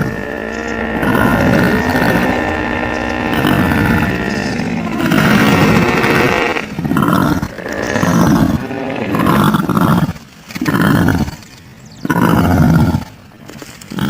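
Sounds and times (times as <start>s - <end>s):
creature growling: 0.0s - 11.4s.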